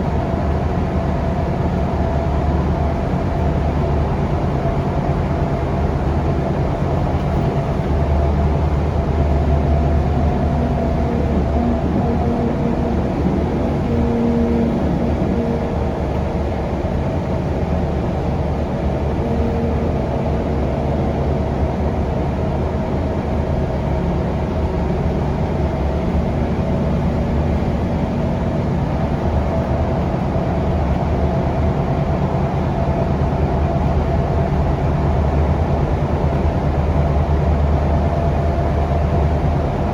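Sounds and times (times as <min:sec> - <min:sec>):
bus engine humming: 0:00.0 - 0:39.9
road and tyre noise: 0:00.0 - 0:39.9.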